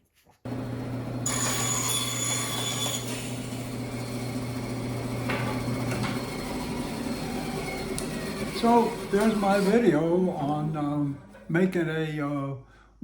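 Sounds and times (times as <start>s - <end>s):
bandsaw motor hum: 0.5s - 11.5s.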